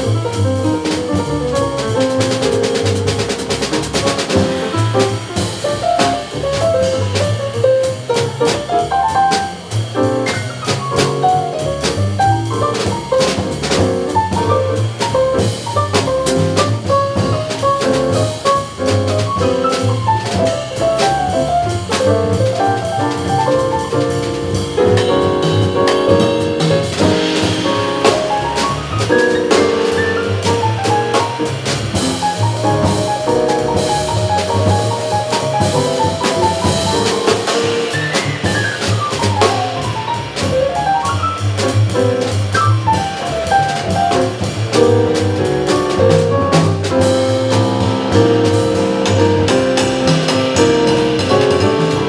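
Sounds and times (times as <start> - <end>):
drum kit with cymbals: 0.0 - 52.0
piano keyboard: 0.0 - 52.0
upright double bass: 0.0 - 52.0.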